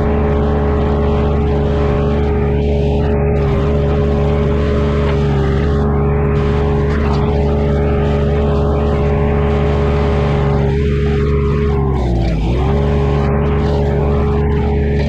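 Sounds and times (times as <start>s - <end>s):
earthmover engine at high revs: 0.0s - 15.0s.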